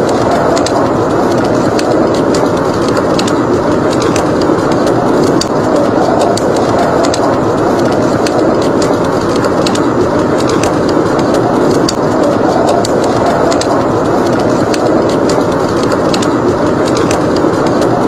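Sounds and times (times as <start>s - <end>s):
blizzard wind roaring: 0.0s - 18.0s
wood fire crackling: 0.0s - 18.0s.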